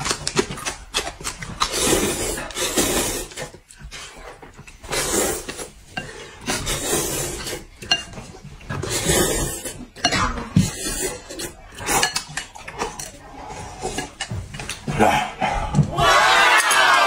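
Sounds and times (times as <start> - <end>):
person slurping noodles: 0.3 - 14.3.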